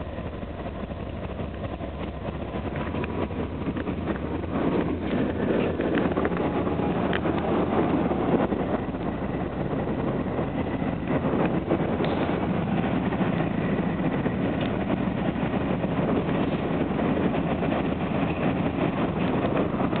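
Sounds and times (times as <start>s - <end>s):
diesel locomotive drone: 0.0s - 20.0s
wheel and rail noise: 0.0s - 20.0s.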